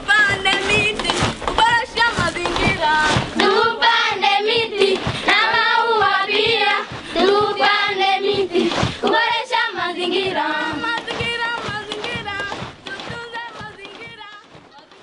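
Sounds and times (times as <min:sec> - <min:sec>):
music with a steady beat: 0:00.0 - 0:15.0
people singing: 0:00.1 - 0:14.5.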